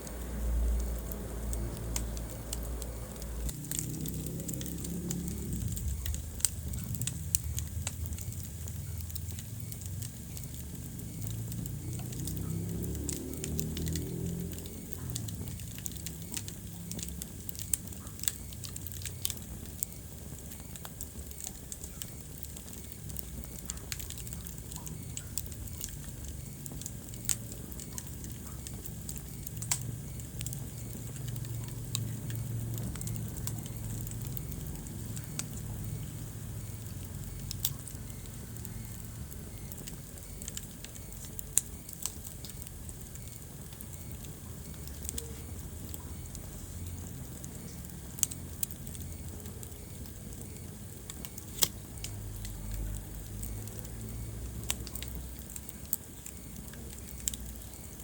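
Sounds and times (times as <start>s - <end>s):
low rumble of burning: 0.0s - 58.0s
wood fire crackling and popping: 0.0s - 58.0s.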